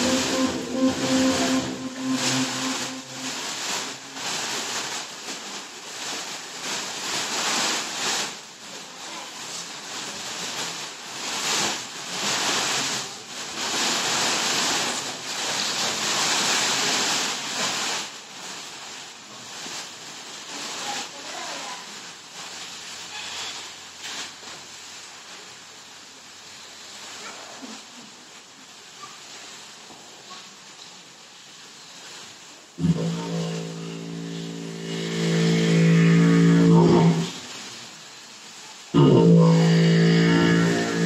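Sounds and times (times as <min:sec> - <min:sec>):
plastic sheet rustling and crackling: 0:00.0 - 0:41.0.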